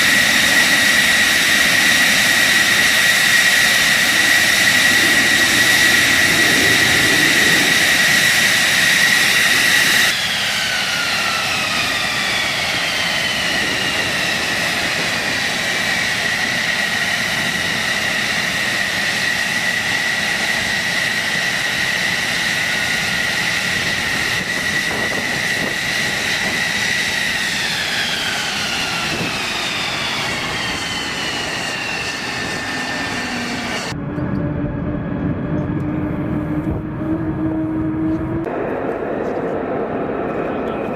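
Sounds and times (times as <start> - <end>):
jet engine whine: 0.0 - 40.9.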